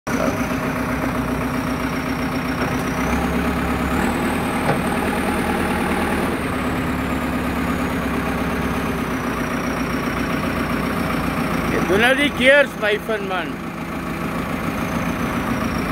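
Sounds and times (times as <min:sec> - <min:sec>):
diesel engine running: 0:00.1 - 0:15.9.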